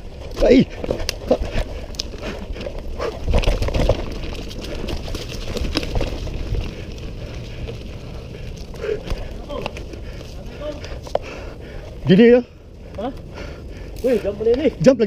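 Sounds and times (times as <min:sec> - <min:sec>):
bike rattling over bumps: 0:00.0 - 0:15.0
bike tyres rumbling on dirt: 0:00.0 - 0:15.0.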